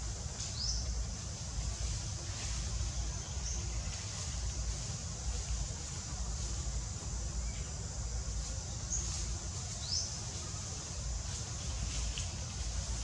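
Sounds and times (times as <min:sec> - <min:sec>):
insect hiss: 0:00.0 - 0:13.0.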